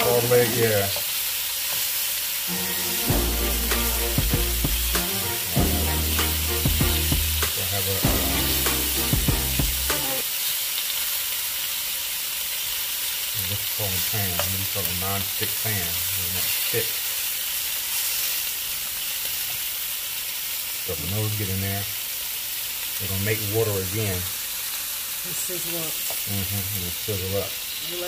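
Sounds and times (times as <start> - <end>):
fish sizzling in a frying pan: 0.0 - 28.0.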